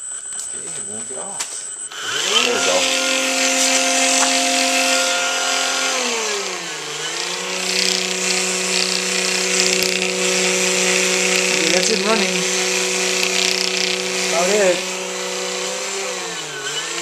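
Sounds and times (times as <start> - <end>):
electric motor whining: 0.2 - 17.0
roller spinning bicycle tire: 2.1 - 17.0.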